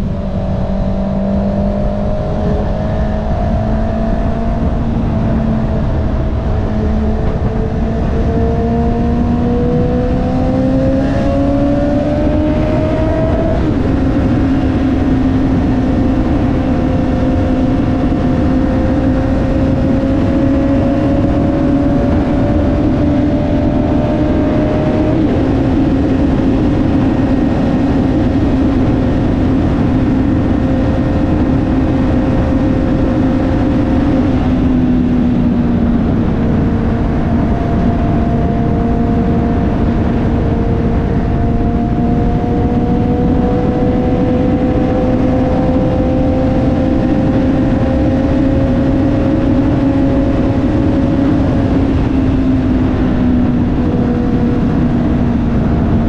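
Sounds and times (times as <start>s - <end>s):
motorcycle engine at speed: 0.0s - 56.0s
wind and road noise: 0.0s - 56.0s.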